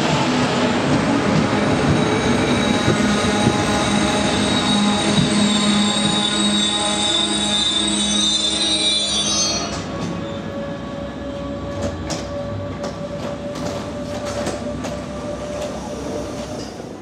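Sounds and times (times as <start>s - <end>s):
train coaches rumbling: 0.0s - 17.0s
train wheels squealing: 1.2s - 17.0s.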